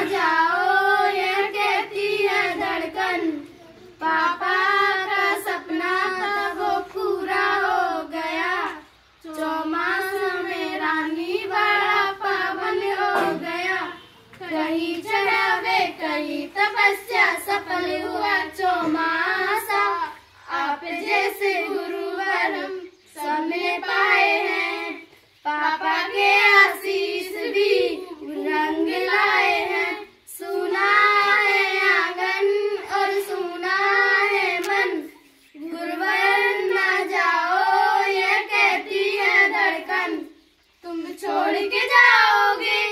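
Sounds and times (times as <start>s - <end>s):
girls singing unaccompanied: 0.0s - 42.9s.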